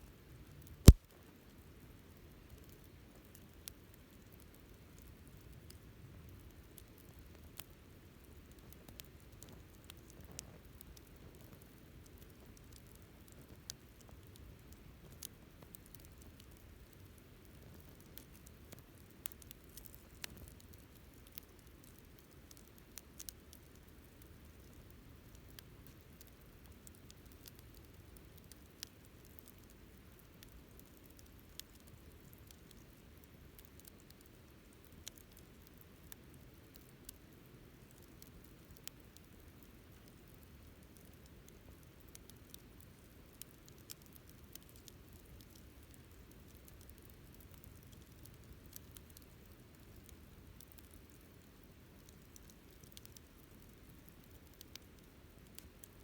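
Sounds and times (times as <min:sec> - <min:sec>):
campfire crackling: 0:02.4 - 0:56.0.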